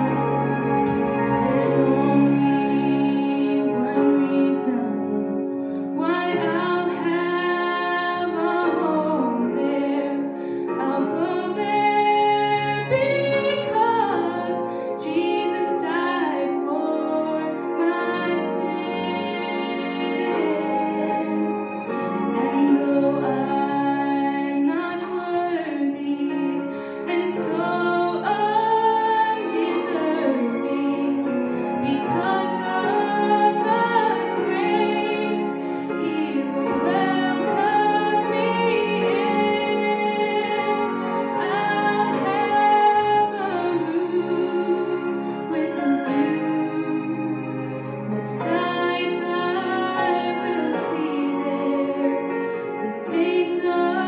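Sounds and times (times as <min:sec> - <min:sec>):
instrumental accompaniment: 0:00.0 - 0:54.0
woman singing into microphone: 0:01.4 - 0:05.3, 0:05.9 - 0:54.0.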